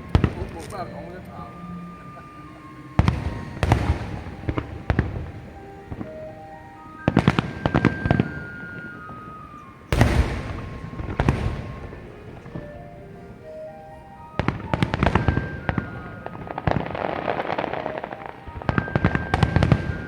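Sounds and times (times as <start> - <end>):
fireworks bangs: 0.0 - 20.0
melody from sound system: 0.0 - 20.0
rapid firework crackling: 0.0 - 20.0.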